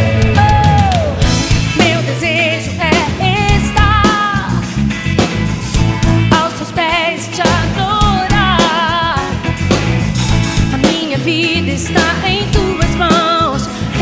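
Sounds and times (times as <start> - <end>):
pop-rock worship song: 0.0 - 14.0.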